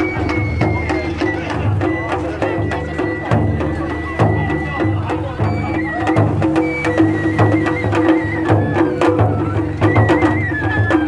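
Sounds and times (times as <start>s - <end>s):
drum beats: 0.0s - 11.0s
high flute melody: 0.0s - 11.0s.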